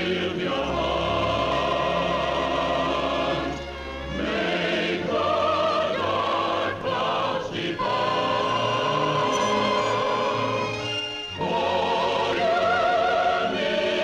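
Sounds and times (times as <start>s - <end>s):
choir singing sustained notes: 0.0s - 14.0s
orchestral film music: 0.0s - 14.0s.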